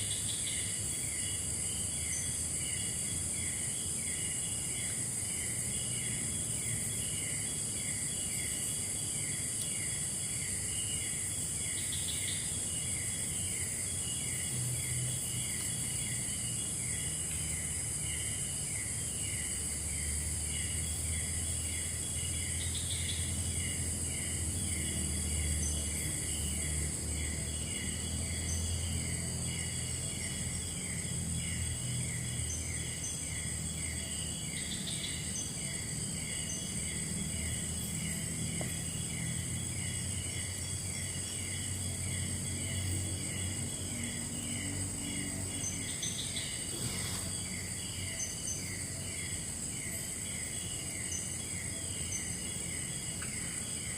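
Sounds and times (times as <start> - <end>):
higher insect call: 0.0 - 53.9
insect chirping: 0.0 - 53.9
insects high-pitched buzz: 0.0 - 53.9.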